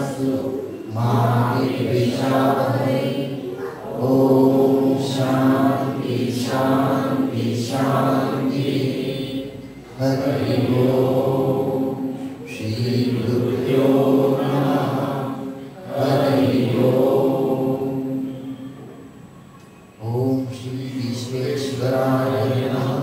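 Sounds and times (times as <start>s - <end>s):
man chanting a prayer: 0.0s - 16.6s, 20.0s - 23.0s.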